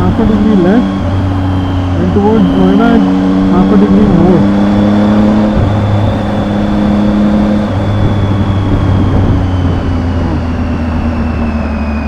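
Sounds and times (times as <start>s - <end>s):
motorcycle engine running: 0.0s - 12.0s
thin high whine: 0.0s - 12.0s
wind rushing over microphone: 0.0s - 12.0s.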